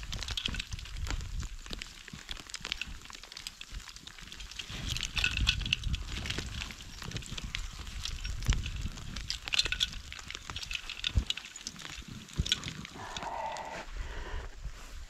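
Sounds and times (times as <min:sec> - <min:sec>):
wind rumbling on microphone: 0:00.0 - 0:03.1, 0:03.7 - 0:15.0.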